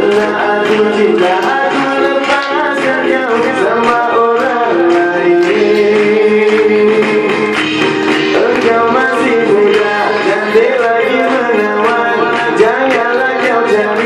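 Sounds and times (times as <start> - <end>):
keyboard with backing beat: 0.0 - 14.0
man singing into a microphone: 0.0 - 14.0.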